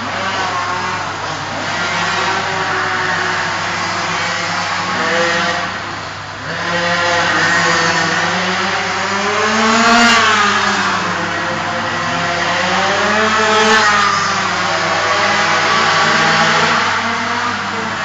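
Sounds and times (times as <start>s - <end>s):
minibike engines revving: 0.0s - 18.0s.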